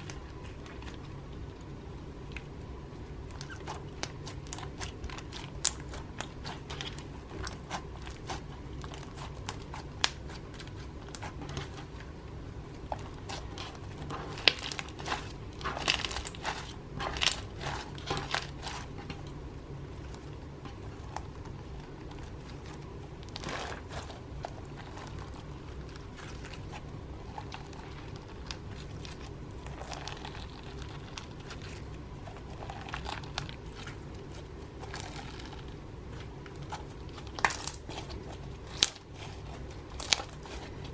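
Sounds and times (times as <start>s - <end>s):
slime crackling and popping: 3.2s - 40.9s.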